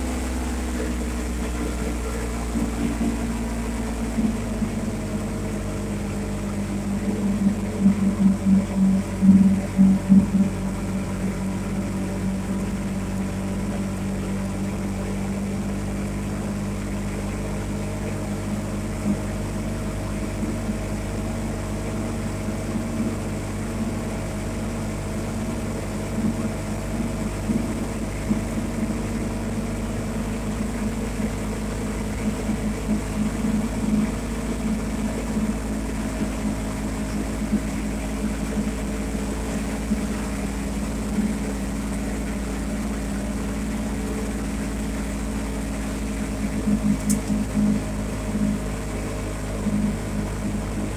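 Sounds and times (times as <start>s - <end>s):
atv engine running steadily: 0.0s - 50.9s.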